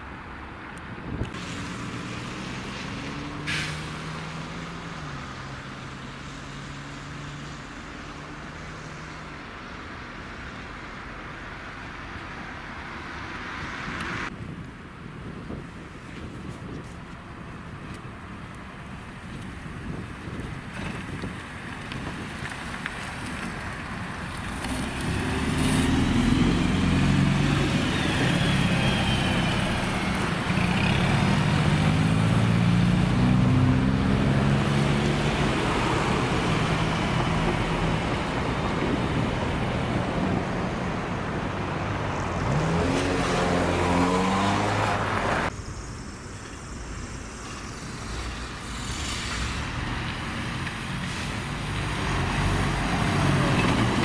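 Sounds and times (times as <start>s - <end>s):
buses driving past: 0.0s - 54.0s
quieter traffic: 0.0s - 54.0s
bus accelerating: 1.0s - 14.3s, 23.1s - 54.0s.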